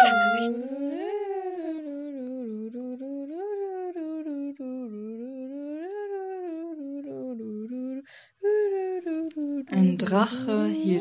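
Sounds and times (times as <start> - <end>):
person humming a melody: 0.0 - 9.8.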